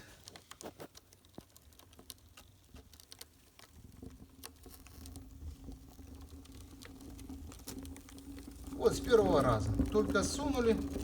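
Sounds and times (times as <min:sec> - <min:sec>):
fire crackling: 0:00.0 - 0:11.0
low hum of fire draft: 0:00.0 - 0:11.0
sharp snaps of fire: 0:00.0 - 0:11.0.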